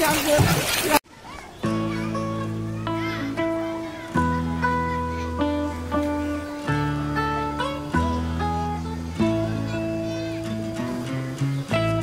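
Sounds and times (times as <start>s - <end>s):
plucked guitar music: 1.6s - 12.0s
held bass notes: 1.7s - 12.0s.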